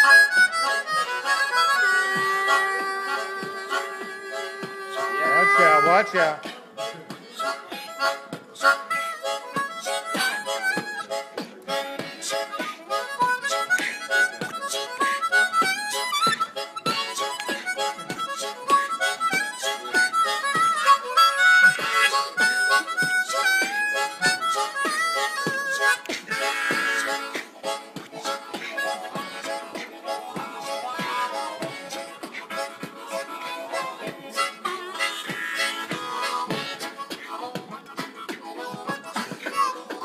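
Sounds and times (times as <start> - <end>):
blues harmonica playing fast: 0.0 - 40.0.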